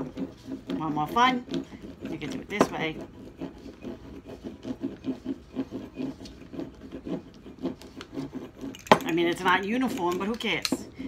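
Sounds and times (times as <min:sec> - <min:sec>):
pizza cutter scraping on cutting board: 0:00.0 - 0:10.3.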